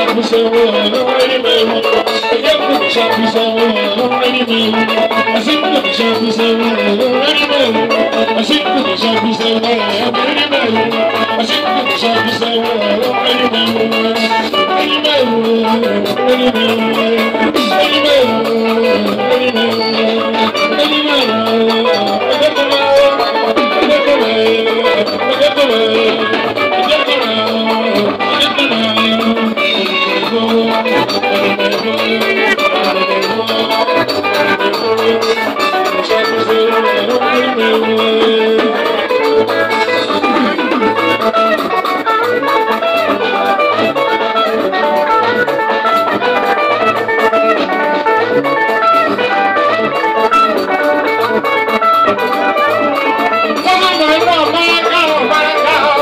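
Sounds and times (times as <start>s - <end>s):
electric guitar lines: 0.0s - 56.0s
live band music: 0.0s - 56.0s
steady drum rhythm: 0.0s - 56.0s.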